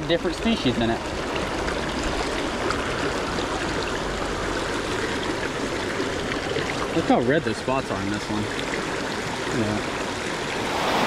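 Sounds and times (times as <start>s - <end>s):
creek water flowing over stones: 0.0s - 11.0s.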